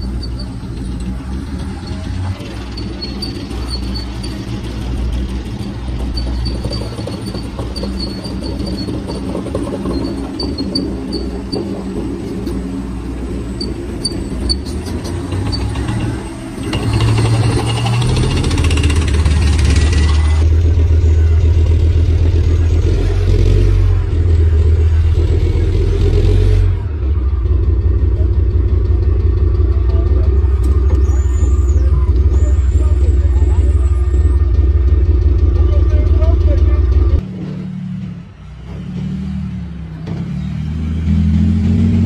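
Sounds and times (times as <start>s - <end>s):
heavy vehicle engine rumbling: 0.0s - 42.0s.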